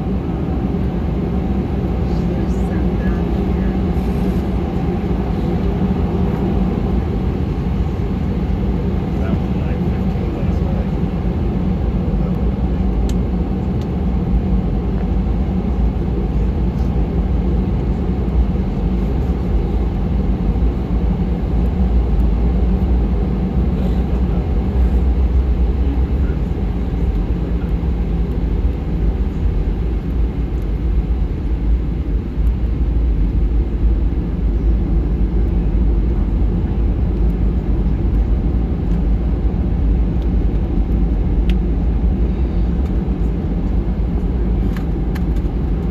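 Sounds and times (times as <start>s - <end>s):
airplane engines rumbling: 0.0s - 45.9s.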